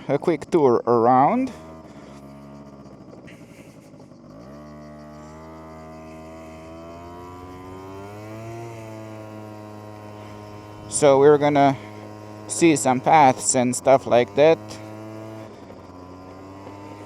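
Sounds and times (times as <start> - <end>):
scooter engine accelerating: 0.0 - 17.0.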